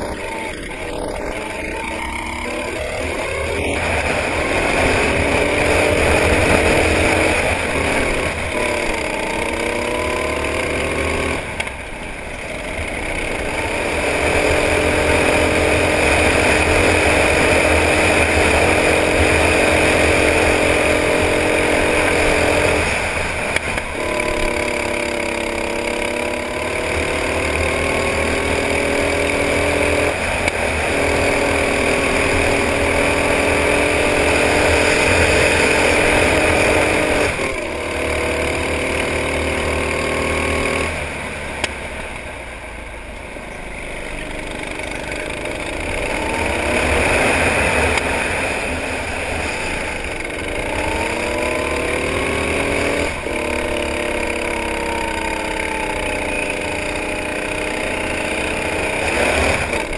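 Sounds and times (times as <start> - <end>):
go-kart engine at high revs: 0.0 - 59.9.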